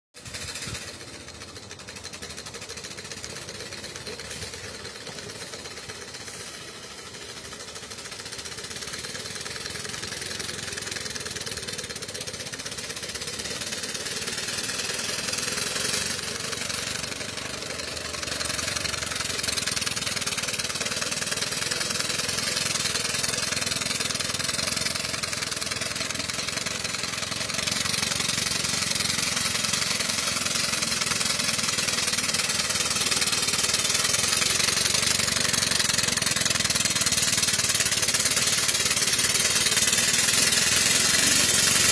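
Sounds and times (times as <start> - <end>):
steam engine exhaust beating: 0.2 - 41.9
steam hissing: 0.2 - 41.9.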